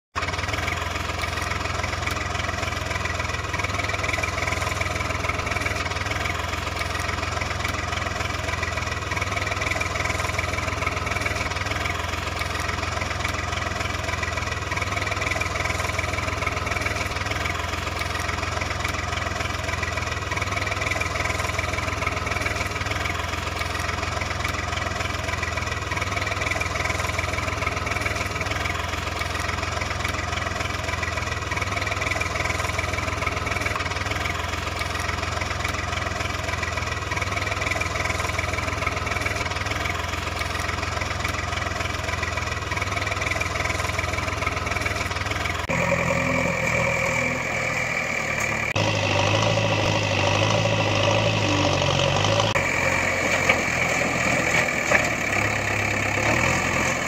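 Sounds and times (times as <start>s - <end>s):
truck engine idling: 0.2s - 57.0s.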